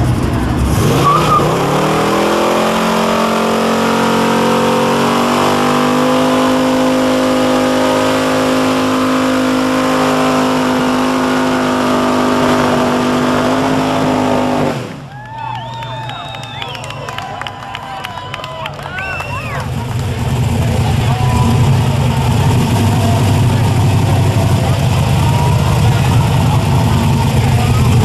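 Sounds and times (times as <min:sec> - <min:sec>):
car engine revving: 0:00.0 - 0:15.1, 0:19.4 - 0:28.0.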